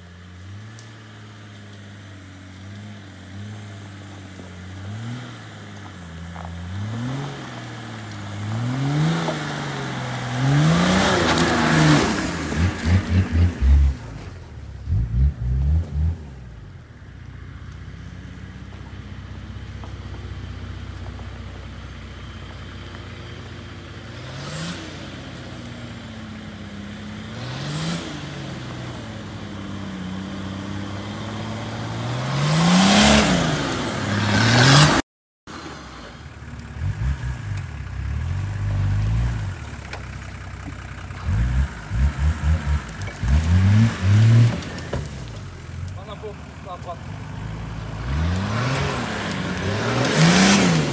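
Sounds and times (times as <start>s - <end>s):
off-road engines revving: 0.0s - 50.9s.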